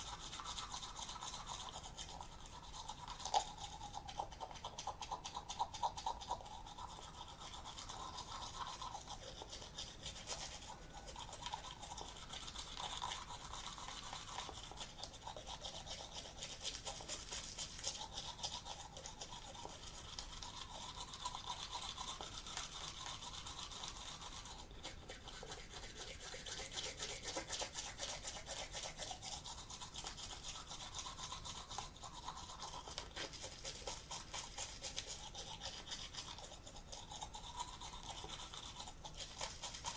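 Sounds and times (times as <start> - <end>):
toothbrush scrubbing teeth: 0.0 - 39.9.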